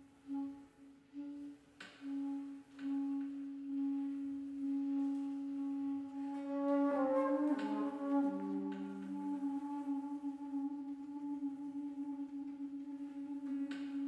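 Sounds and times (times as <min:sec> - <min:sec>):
flute holding low note: 0:00.0 - 0:14.0
ensemble sustained tones: 0:02.2 - 0:14.0.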